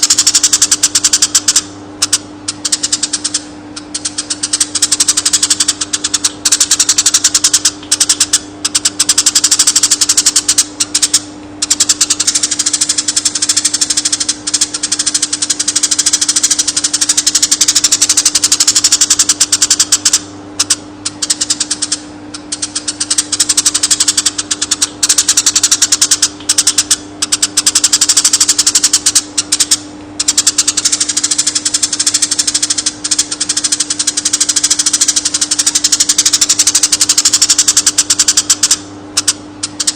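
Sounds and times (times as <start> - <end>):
steady low hum: 0.0 - 39.9
sparrow rapid chirping: 2.6 - 38.8.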